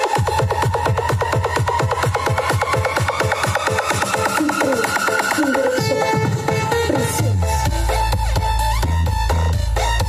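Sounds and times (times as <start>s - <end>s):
loud electronic dance music: 0.0s - 10.0s.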